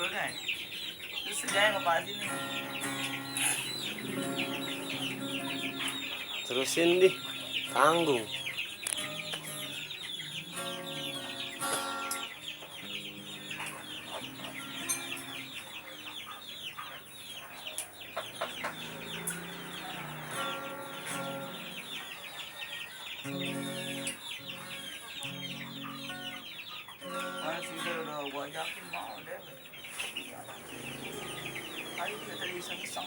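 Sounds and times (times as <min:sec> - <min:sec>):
music with held notes: 0:00.0 - 0:29.2, 0:30.0 - 0:33.0
chickens cheeping and clucking: 0:00.0 - 0:33.0.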